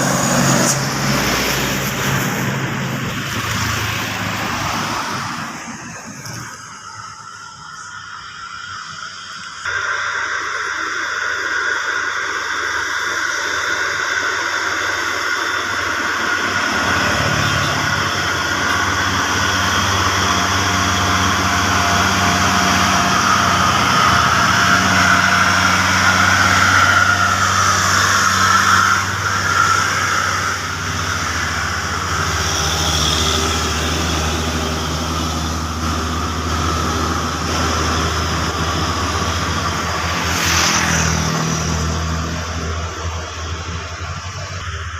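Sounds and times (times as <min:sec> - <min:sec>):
diesel truck engine running: 0:00.0 - 0:07.2, 0:11.2 - 0:44.9
road and tyre noise: 0:00.0 - 0:44.9.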